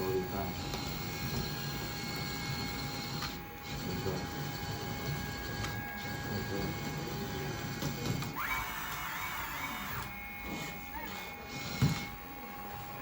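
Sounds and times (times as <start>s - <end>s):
hydraulic pump whine: 0.0s - 13.0s
louder motor whirring: 0.0s - 13.0s.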